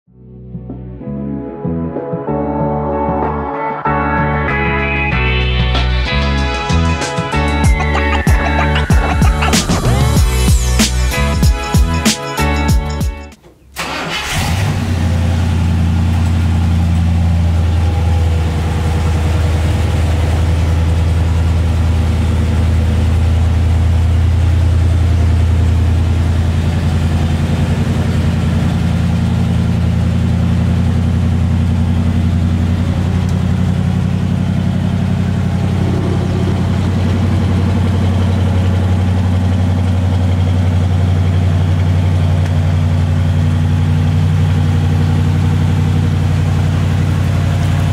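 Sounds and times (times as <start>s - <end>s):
car engine idling: 4.4s - 47.9s.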